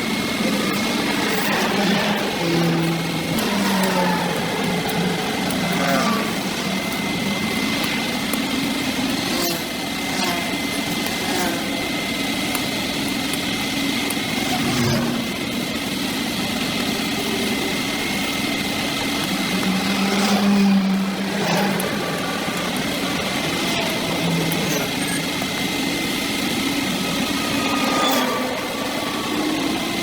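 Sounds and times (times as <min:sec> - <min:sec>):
small engine running at high revs: 0:00.0 - 0:30.0.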